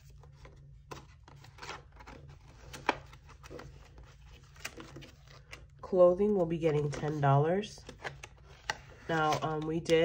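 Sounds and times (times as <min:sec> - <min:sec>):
paper banknotes rustling: 0:00.0 - 0:10.0
plastic envelope rustling: 0:00.0 - 0:10.0.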